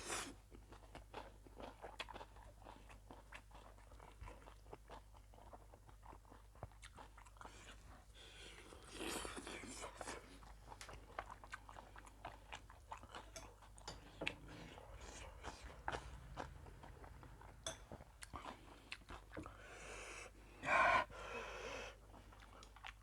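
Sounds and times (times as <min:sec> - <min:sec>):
person chewing: 0:00.0 - 0:19.7, 0:22.0 - 0:23.0.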